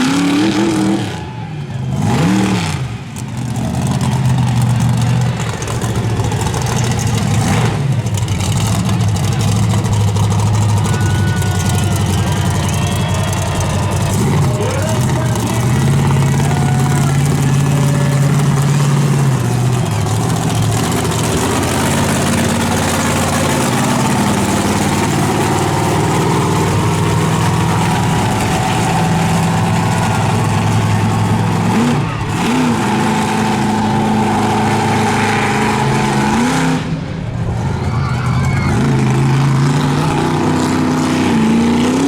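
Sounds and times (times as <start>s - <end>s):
engine throttle blips: 0.0s - 42.0s
truck engine running: 0.0s - 42.0s.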